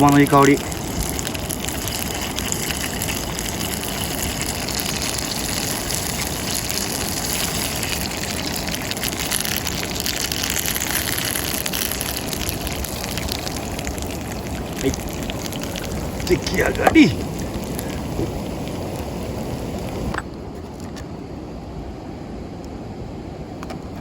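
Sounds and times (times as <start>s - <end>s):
oil sizzling and spattering: 0.0s - 20.2s
dumplings sizzling in a pan: 0.1s - 20.1s.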